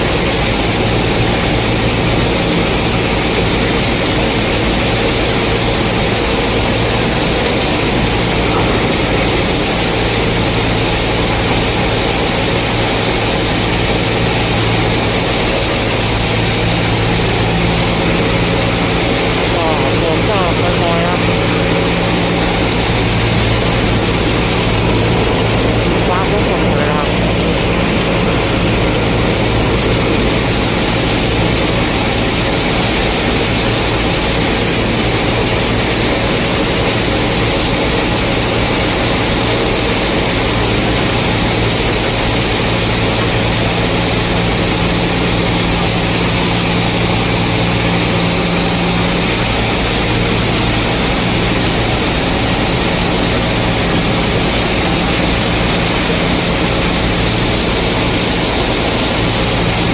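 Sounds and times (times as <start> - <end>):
combine harvester engine droning: 0.0 - 59.9.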